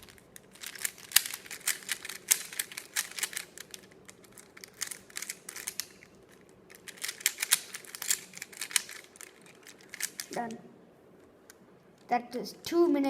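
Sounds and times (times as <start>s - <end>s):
puzzle cube layers clicking: 0.0s - 10.6s.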